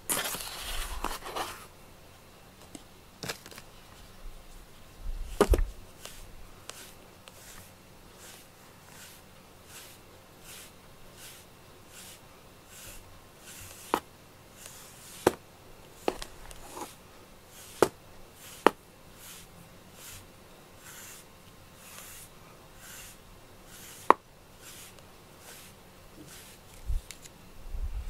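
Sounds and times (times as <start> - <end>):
brush swishing through cat fur: 4.0 - 27.3.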